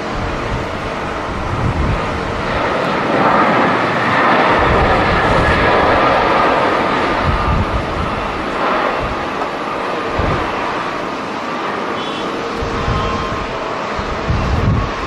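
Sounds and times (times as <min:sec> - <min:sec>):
wind buffeting microphone: 0:00.0 - 0:11.6, 0:12.4 - 0:15.0
jet engines rushing: 0:00.0 - 0:15.0.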